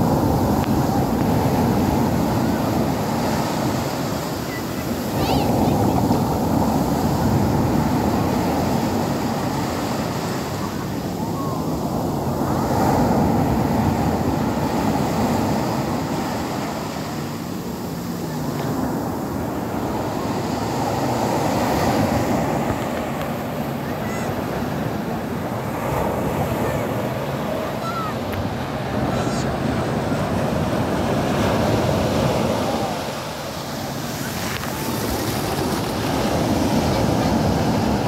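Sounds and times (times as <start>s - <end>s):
sea surf breaking on beach: 0.0s - 38.0s.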